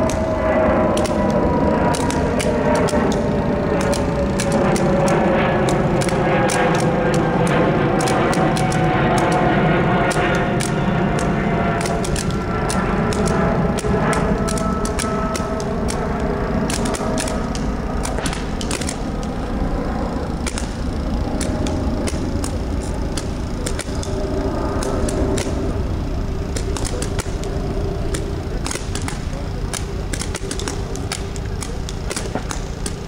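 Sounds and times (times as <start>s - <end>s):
paintball markers popping: 0.0s - 19.6s, 20.4s - 25.8s, 26.5s - 33.0s.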